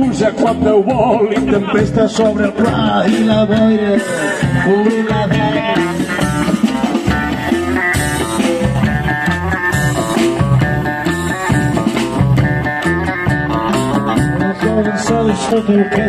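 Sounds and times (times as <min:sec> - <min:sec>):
drum kit beat: 0:00.0 - 0:16.0
electric guitar: 0:00.0 - 0:16.0
upright double bass: 0:00.0 - 0:16.0.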